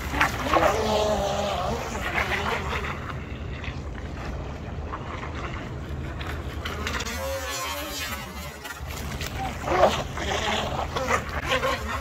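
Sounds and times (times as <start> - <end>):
model boat motor: 0.0 - 12.0.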